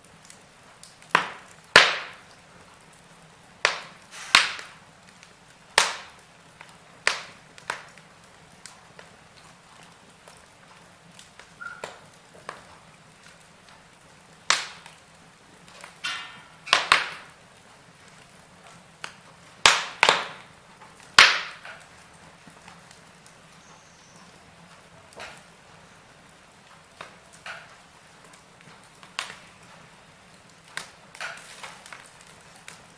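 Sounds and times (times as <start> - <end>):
fire hissing: 0.0 - 32.9
wood fire crackling: 0.0 - 32.9.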